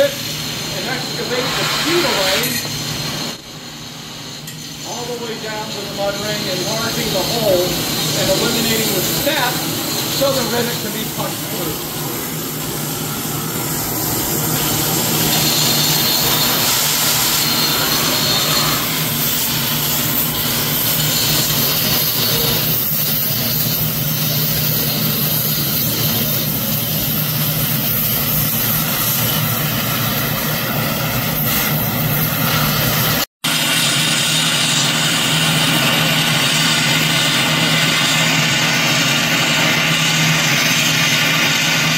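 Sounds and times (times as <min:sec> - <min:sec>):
cutting torch hissing: 0:00.0 - 0:41.9.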